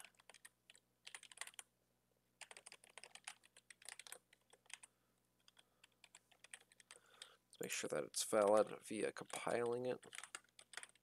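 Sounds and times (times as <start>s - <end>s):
computer keyboard typing: 0.0s - 1.7s, 2.4s - 11.0s.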